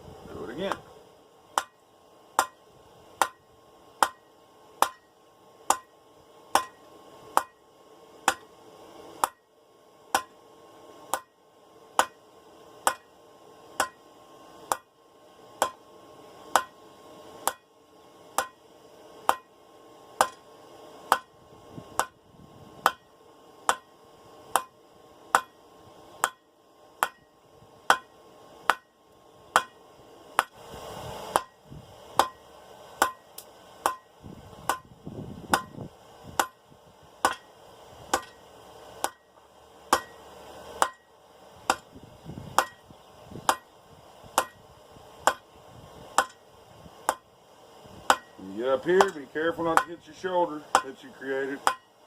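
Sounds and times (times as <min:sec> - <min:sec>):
hammer blows on hot steel: 0:00.2 - 0:52.0.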